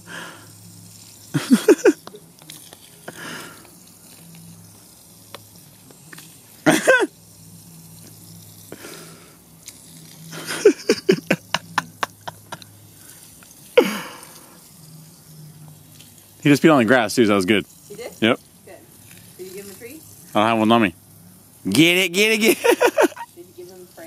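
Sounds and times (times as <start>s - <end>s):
garden hose spraying water: 0.0s - 24.0s.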